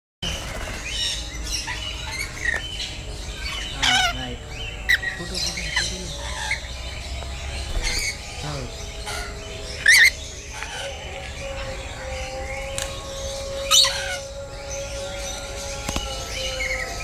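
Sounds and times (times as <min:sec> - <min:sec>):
lorikeets chirping and screeching: 0:00.2 - 0:17.0.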